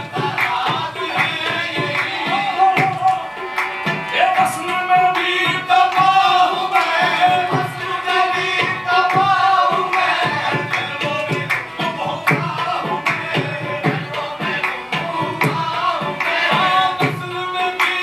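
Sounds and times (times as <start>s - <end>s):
tabla drum beat: 0.0s - 18.0s
voices singing long notes: 0.0s - 18.0s.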